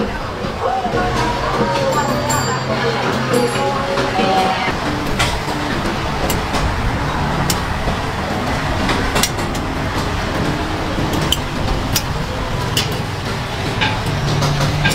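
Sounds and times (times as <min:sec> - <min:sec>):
traffic rumble and hiss: 0:00.0 - 0:14.9.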